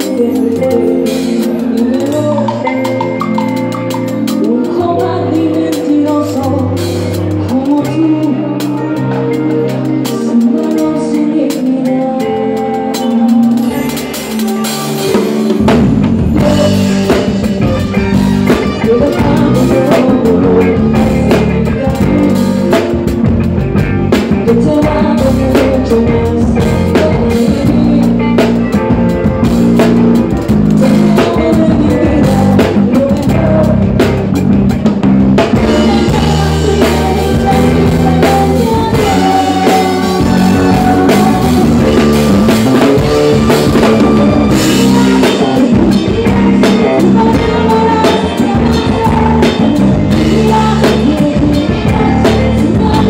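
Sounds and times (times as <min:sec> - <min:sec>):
live band playing: 0:00.0 - 0:53.0.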